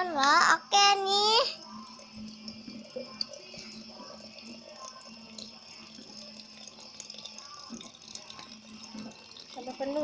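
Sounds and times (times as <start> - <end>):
water filling a bottle: 0.0 - 10.0.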